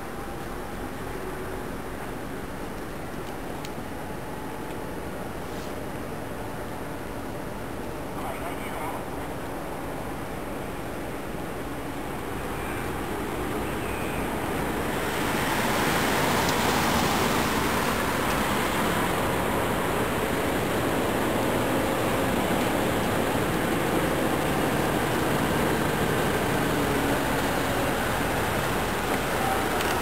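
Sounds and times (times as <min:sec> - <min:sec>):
truck engine and tyre noise: 0:00.0 - 0:30.0.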